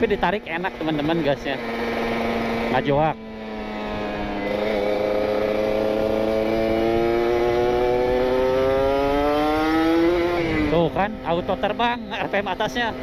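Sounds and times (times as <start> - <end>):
motorcycle engine accelerating hard: 0.0 - 13.0.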